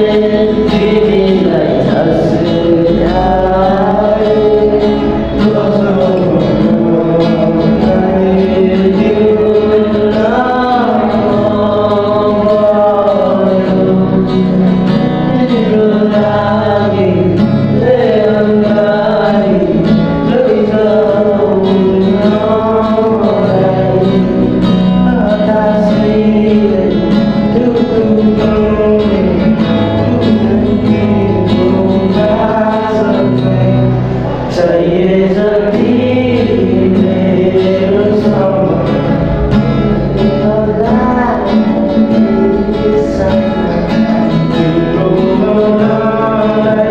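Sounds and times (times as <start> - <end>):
man singing: 0.0 - 46.9
plucked guitar: 0.0 - 46.9.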